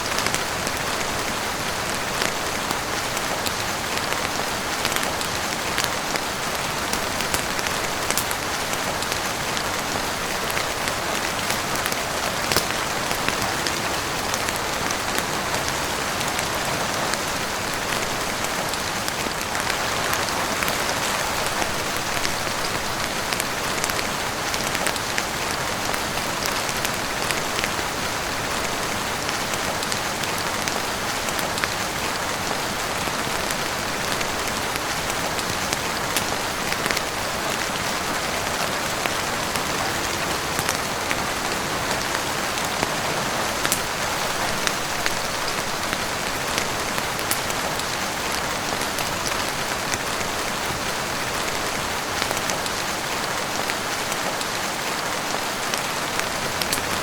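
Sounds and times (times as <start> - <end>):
heavy rain on a roof: 0.0 - 57.0.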